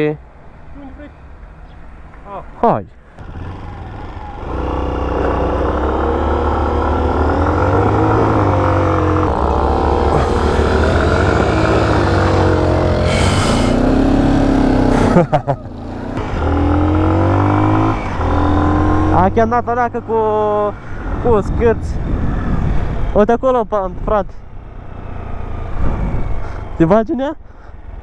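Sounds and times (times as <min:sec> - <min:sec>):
motorcycle engine revving: 0:03.2 - 0:23.2, 0:24.4 - 0:26.8.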